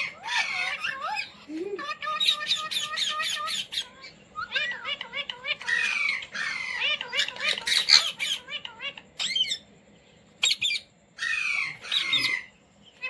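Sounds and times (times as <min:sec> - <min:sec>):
parakeet squawking and chattering: 0:00.0 - 0:09.7, 0:10.4 - 0:13.0.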